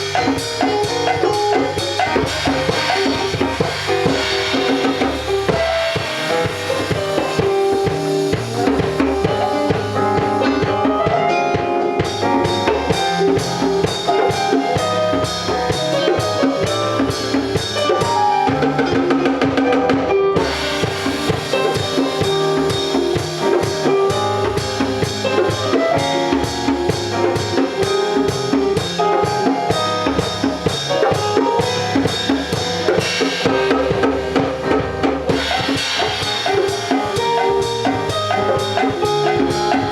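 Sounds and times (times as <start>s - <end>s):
cymbals and high percussion: 0.0s - 19.7s, 20.4s - 39.9s
instrumental music with drum beat: 0.0s - 39.9s.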